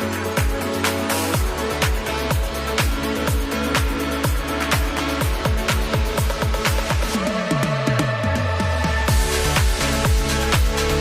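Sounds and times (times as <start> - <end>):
electronic dance music: 0.0 - 11.0
kick drum beat: 1.4 - 11.0.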